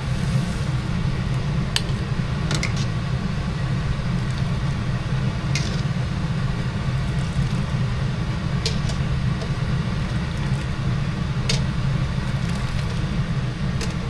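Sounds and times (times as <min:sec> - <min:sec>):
range hood fan humming: 0:00.0 - 0:14.0.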